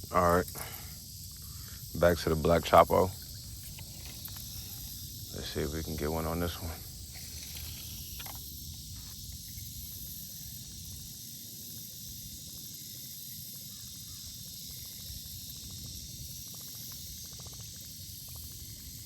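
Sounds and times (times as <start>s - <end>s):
outdoor hiss: 0.0s - 19.0s.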